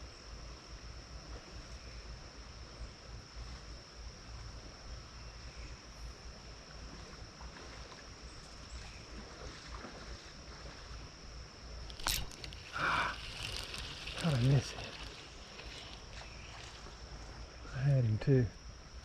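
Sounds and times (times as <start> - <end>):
creek water: 0.0 - 19.0.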